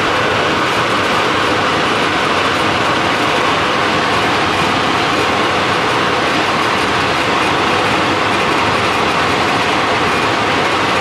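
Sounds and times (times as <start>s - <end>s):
kitchen fan rushing: 0.0s - 11.0s.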